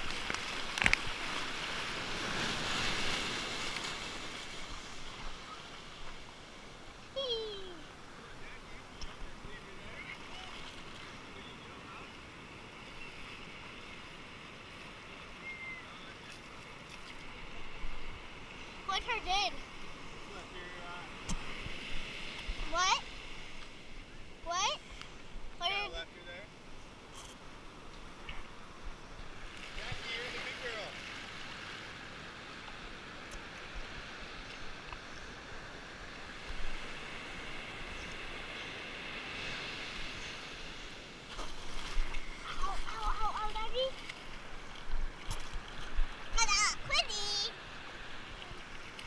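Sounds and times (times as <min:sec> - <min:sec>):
shallow surf washing: 0:00.0 - 0:49.0.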